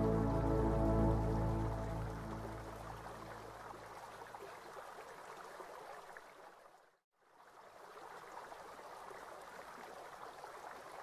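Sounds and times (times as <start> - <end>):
running water trickling and splashing: 1.3 - 11.0.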